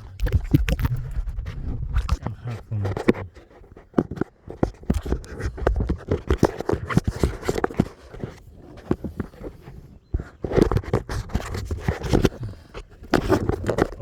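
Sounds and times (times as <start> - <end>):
hands pulling at plastic hose: 0.0 - 14.0.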